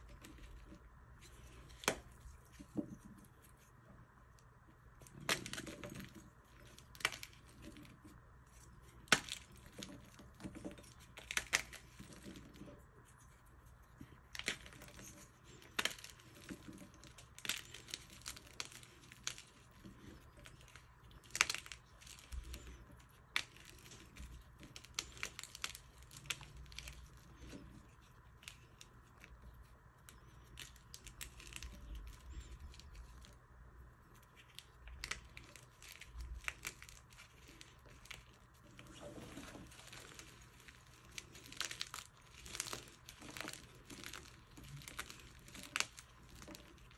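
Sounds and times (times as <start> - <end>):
chalk crumbling by hand: 0.0 - 46.9
chalk chunks snapping: 0.1 - 3.6, 5.0 - 46.9.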